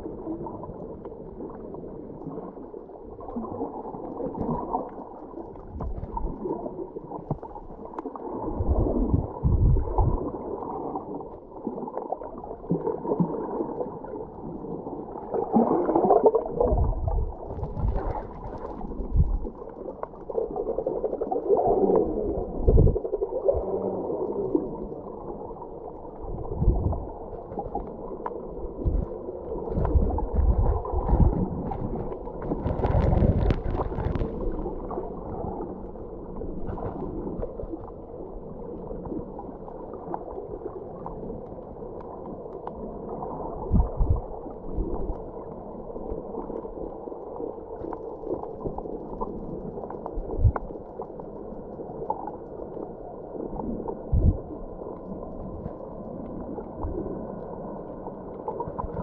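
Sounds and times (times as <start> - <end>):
underwater gurgling and sloshing: 0.0 - 59.0.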